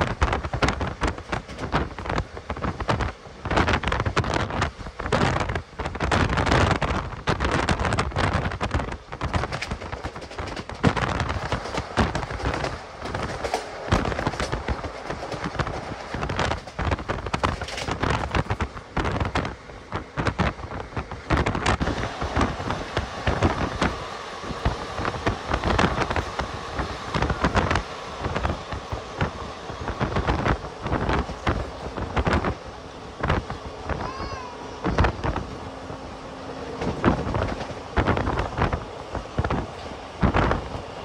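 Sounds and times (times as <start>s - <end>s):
train wheels clattering over track: 0.0s - 41.0s
wind rushing on microphone: 0.0s - 41.0s.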